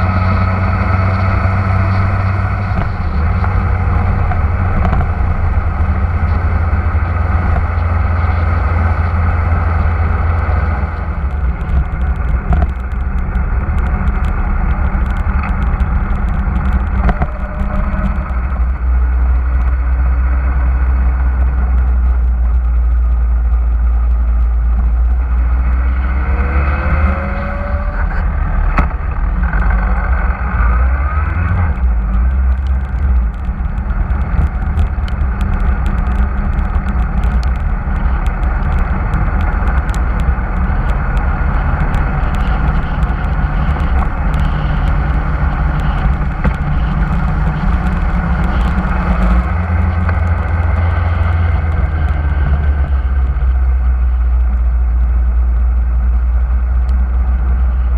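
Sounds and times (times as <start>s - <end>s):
motorcycle engine running: 0.0s - 57.9s
wind rumble on microphone: 0.0s - 57.9s.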